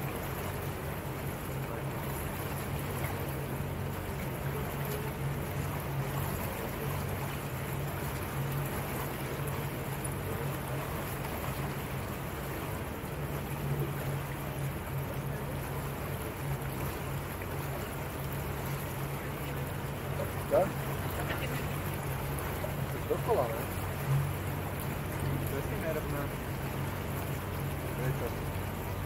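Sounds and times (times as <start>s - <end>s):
motorboat engine humming: 0.0s - 29.0s
water rushing: 0.0s - 29.0s.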